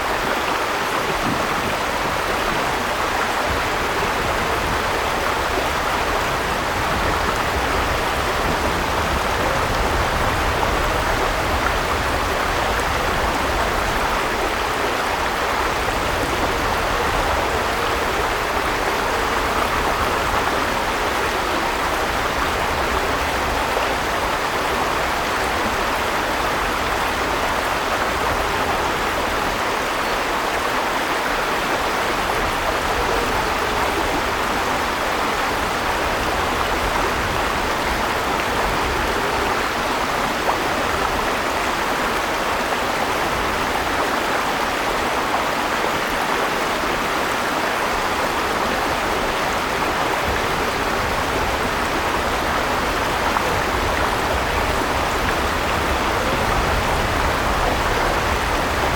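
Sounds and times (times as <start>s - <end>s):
river water rushing over stones: 0.0s - 58.9s.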